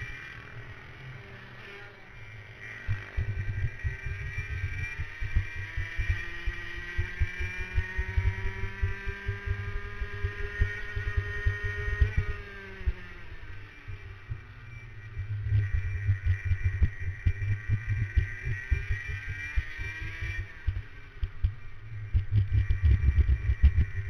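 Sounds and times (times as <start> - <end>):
racing kart engine: 0.0 - 24.0.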